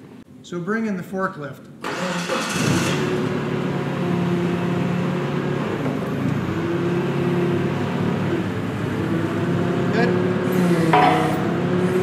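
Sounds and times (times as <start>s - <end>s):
forklift engine running: 1.8s - 12.0s.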